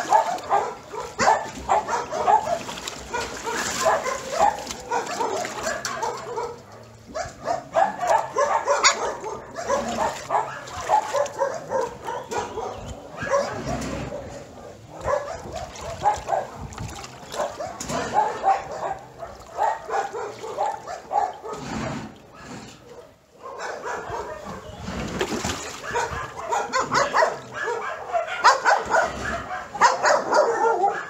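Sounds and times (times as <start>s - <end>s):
many dogs barking: 0.0s - 25.0s, 25.6s - 31.0s.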